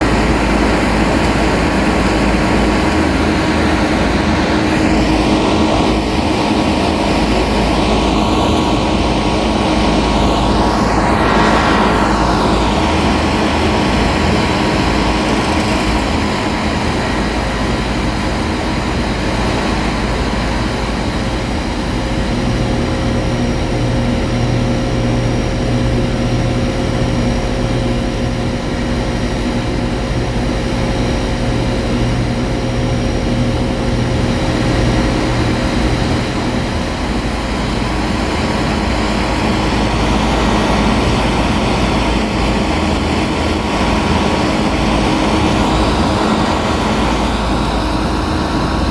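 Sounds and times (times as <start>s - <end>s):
compressor hum: 0.0s - 48.9s
condenser fan rushing: 0.0s - 48.9s.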